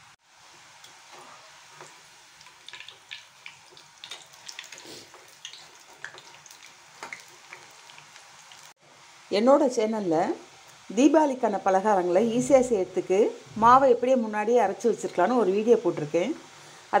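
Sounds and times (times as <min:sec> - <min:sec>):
dough frying in hot oil: 0:00.0 - 0:17.0.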